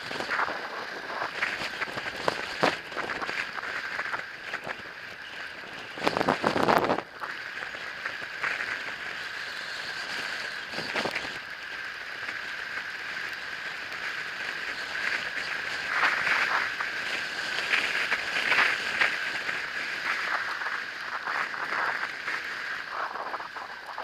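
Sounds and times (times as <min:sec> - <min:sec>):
loud crackling rush: 0:00.0 - 0:24.0
tyre and wind hiss: 0:00.0 - 0:24.0.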